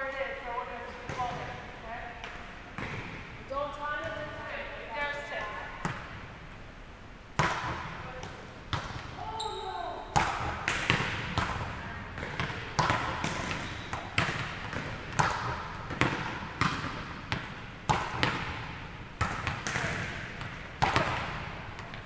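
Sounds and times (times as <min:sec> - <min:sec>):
volleyball slaps echoing in gym: 0:00.9 - 0:04.5, 0:05.2 - 0:06.4, 0:07.3 - 0:22.0.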